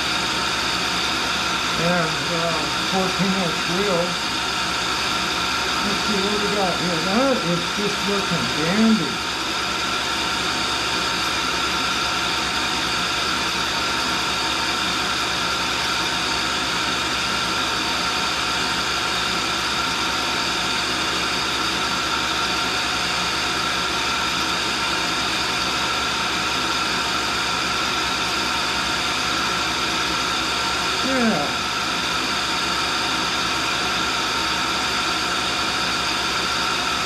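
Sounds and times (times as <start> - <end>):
grinder whirring: 0.0 - 37.0.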